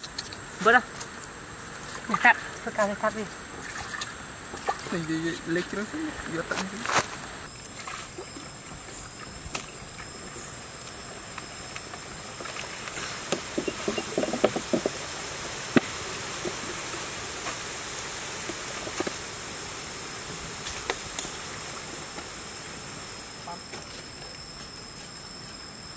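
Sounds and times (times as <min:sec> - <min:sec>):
steady high hiss: 0:00.0 - 0:25.9.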